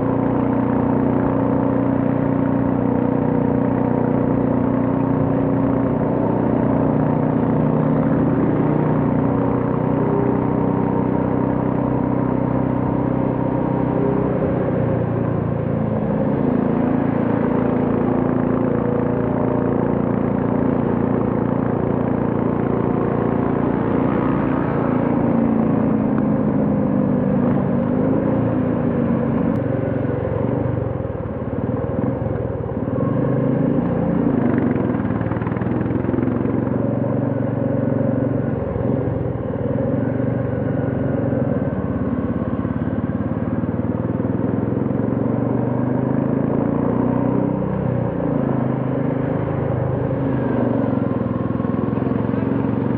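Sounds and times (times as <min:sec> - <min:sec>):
motorcycle engine running: 0:00.0 - 0:52.9
road noise: 0:00.0 - 0:52.9.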